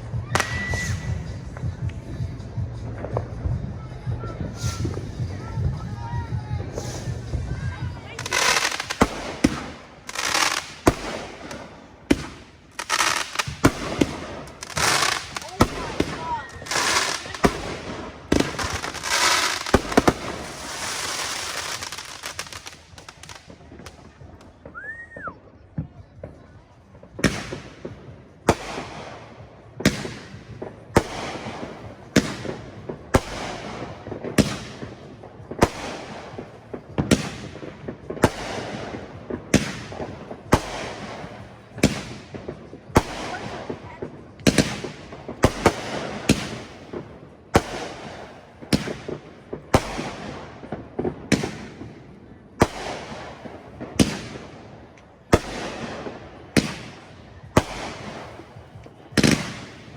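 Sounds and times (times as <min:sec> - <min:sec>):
fireworks banging and crackling: 0:00.0 - 0:59.9.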